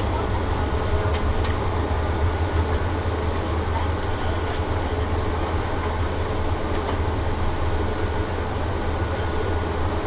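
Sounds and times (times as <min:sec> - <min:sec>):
wheels rolling over taxiway: 0:00.0 - 0:09.6
aircraft engine low rumble: 0:00.0 - 0:10.0.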